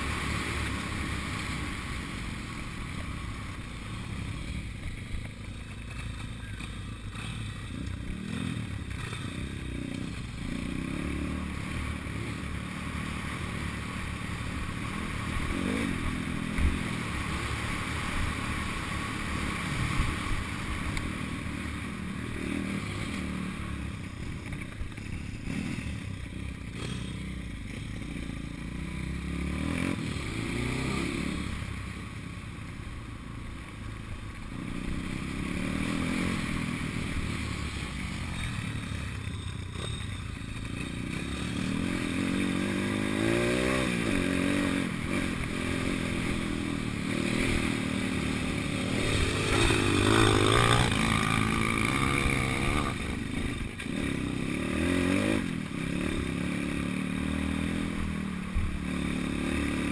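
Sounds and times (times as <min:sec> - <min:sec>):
pit bike engine revving: 0:03.5 - 0:31.7, 0:34.6 - 0:59.9.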